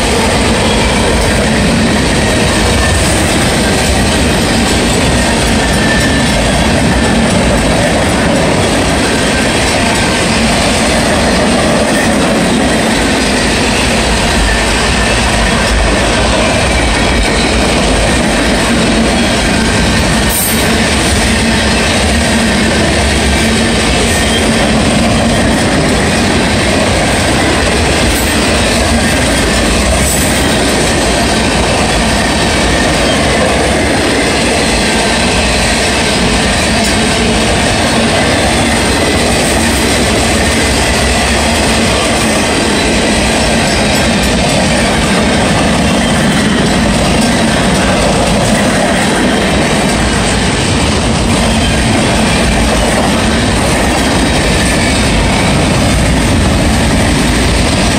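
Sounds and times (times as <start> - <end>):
train wheels rumbling and clacking: 0.0 - 57.9.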